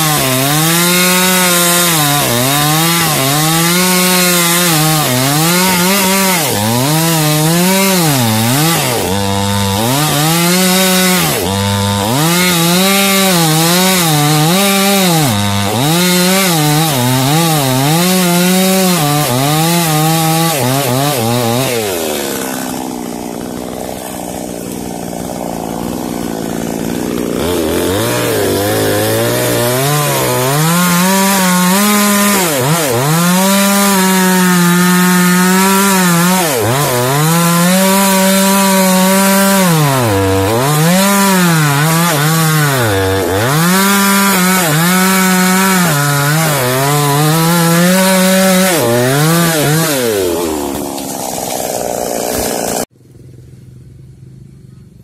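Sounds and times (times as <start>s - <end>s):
chainsaw cutting wood: 0.0s - 53.4s.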